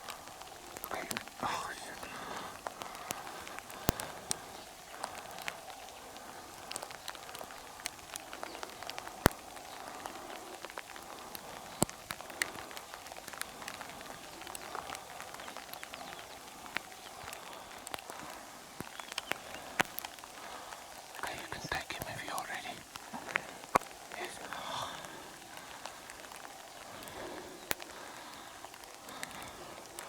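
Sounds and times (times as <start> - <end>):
rain falling: 0.0 - 30.0
sharp taps of raindrops: 0.0 - 30.0.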